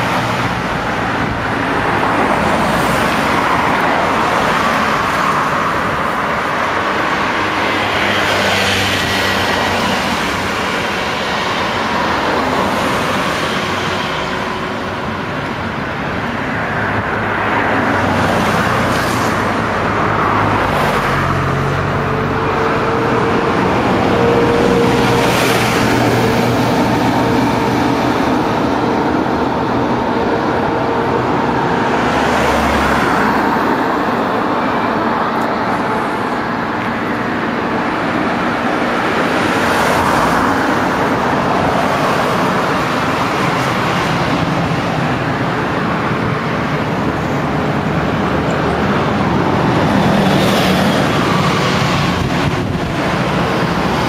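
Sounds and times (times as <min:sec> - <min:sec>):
road traffic: 0:00.0 - 0:54.0
vehicles passing: 0:00.0 - 0:54.0.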